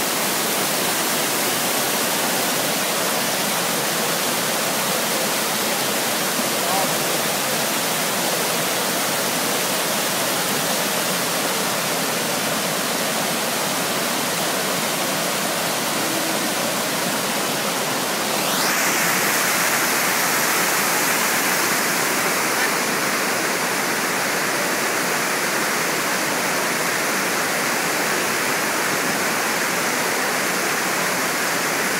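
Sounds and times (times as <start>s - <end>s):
water rushing over rocks: 0.0s - 31.9s.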